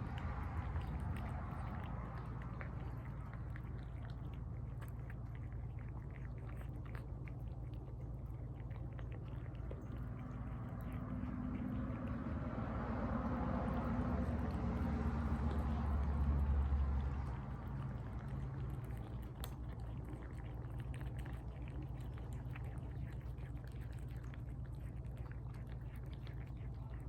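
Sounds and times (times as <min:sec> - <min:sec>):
cats chewing and lapping: 0:00.0 - 0:27.0
steady low hum: 0:00.0 - 0:27.0.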